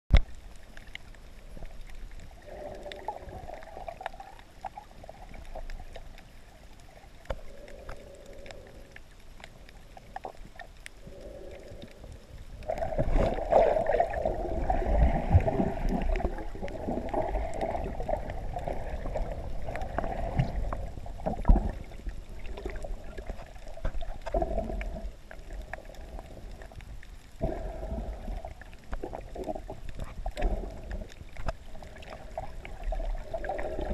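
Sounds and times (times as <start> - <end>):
muffled underwater sloshing: 0.1 - 33.9.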